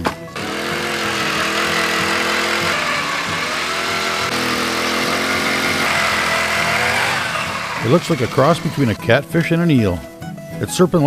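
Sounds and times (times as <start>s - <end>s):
power ice auger drilling: 0.0s - 9.2s.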